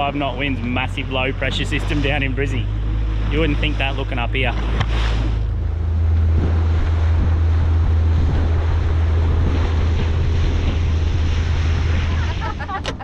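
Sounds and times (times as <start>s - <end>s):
outboard motor drone: 0.0s - 13.0s
water rushing past hull: 0.0s - 13.0s
wind buffeting microphone: 0.0s - 13.0s.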